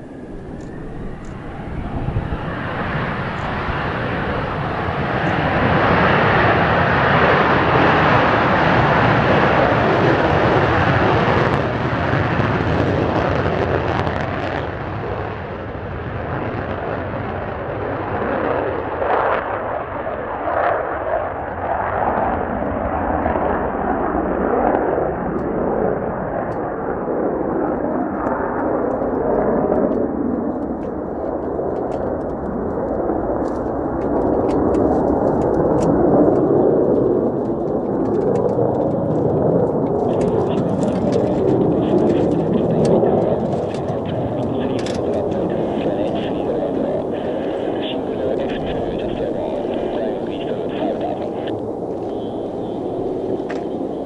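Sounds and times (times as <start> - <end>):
jet engine roaring on takeoff: 0.0 - 54.0.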